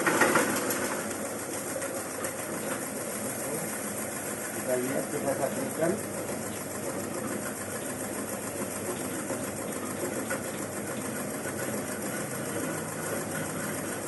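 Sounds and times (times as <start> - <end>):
stripping machine running: 0.0 - 14.0.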